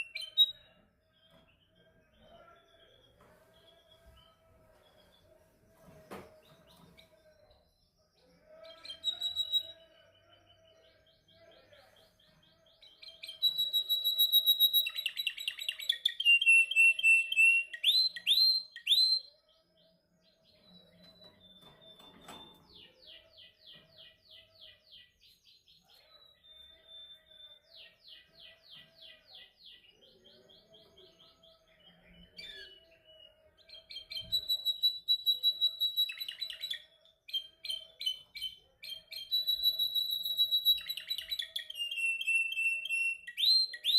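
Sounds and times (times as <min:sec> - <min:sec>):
canary singing trills: 0:00.0 - 0:05.4, 0:06.4 - 0:43.9.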